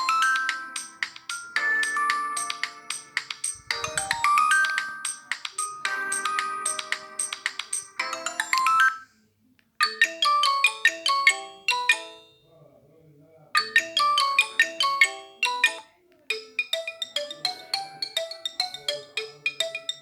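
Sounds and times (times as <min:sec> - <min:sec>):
mobile phone ringtone melody: 0:00.0 - 0:09.1, 0:09.8 - 0:12.5, 0:13.6 - 0:20.0.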